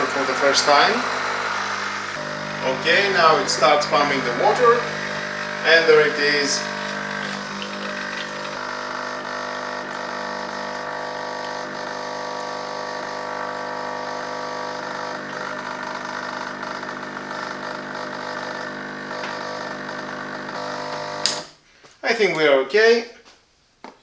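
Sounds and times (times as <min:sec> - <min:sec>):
espresso machine pump humming: 0:00.0 - 0:21.5.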